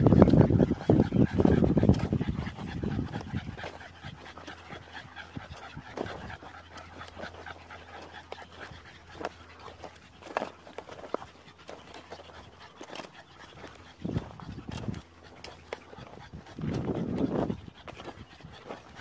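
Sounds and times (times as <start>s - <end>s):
dog panting: 0.0s - 19.0s
footsteps on dirt: 0.0s - 19.0s.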